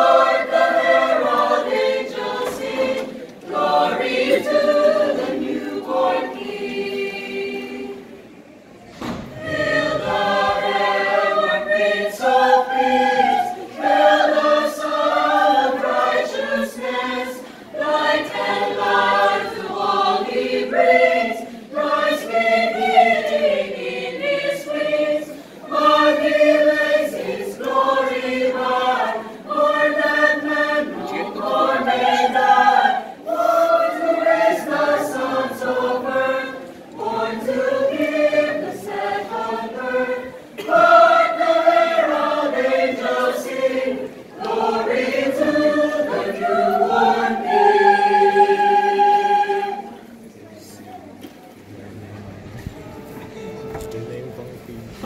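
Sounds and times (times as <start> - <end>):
mixed choir singing a cappella: 0.0 - 50.8.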